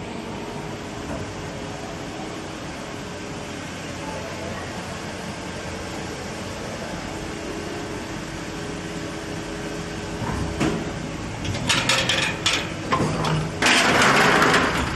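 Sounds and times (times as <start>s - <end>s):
machinery humming: 0.0s - 14.9s.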